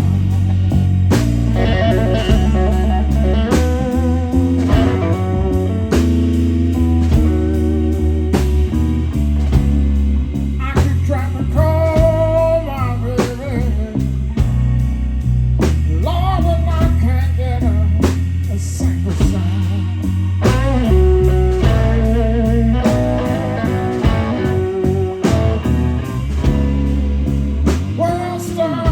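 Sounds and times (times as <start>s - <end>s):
electric guitar lead: 0.0s - 28.9s
live blues band playing: 0.0s - 28.9s.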